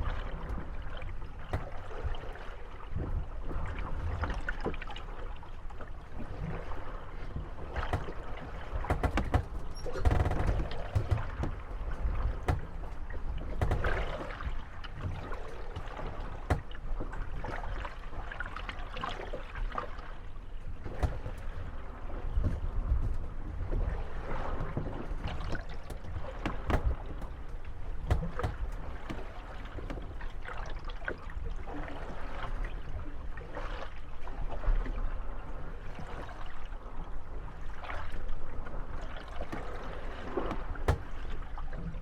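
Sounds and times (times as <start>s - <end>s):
water lapping at boat hulls: 0.0s - 42.0s
wooden boats knocking and creaking: 0.0s - 42.0s.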